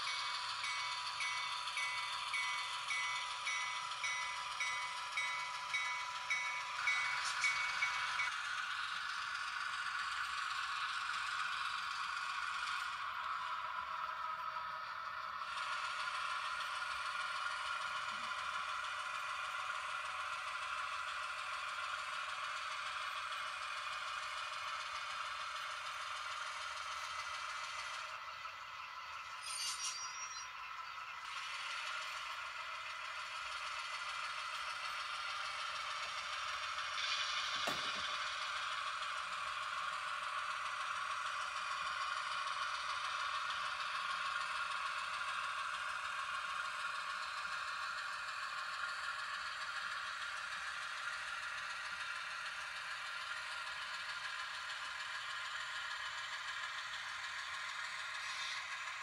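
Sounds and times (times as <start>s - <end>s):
model train running with rattle: 0.0s - 59.0s.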